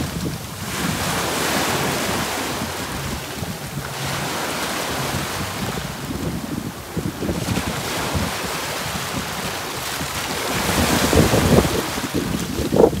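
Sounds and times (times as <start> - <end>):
waves washing over pebbles: 0.0 - 13.0.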